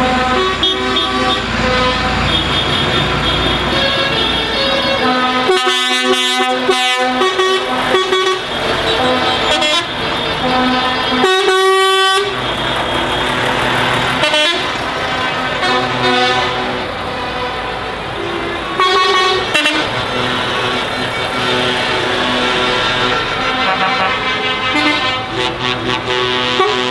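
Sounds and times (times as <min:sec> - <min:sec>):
traffic noise: 0:00.0 - 0:26.9
truck horn blasts: 0:00.0 - 0:26.9.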